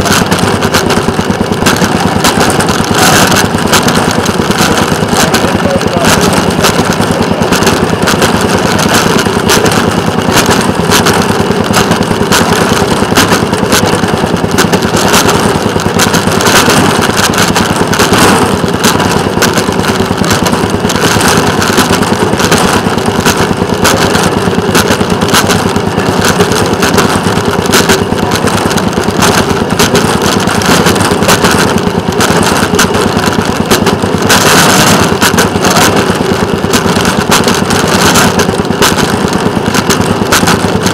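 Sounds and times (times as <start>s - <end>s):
rail vehicle engine running: 0.0s - 40.9s.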